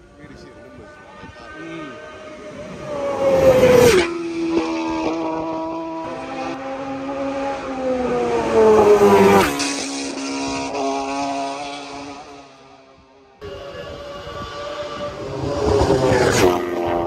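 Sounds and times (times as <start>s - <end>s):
motorbikes passing at speed: 0.0s - 17.0s.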